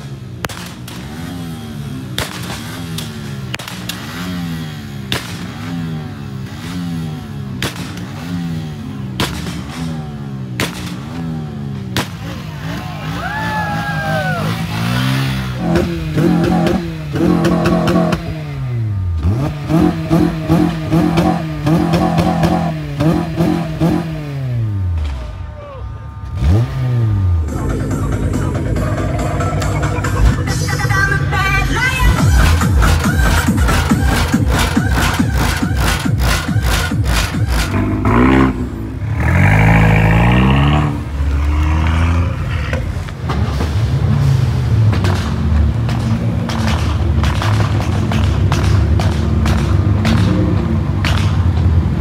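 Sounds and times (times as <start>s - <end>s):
car engine revving: 0.0s - 25.4s, 26.1s - 52.0s.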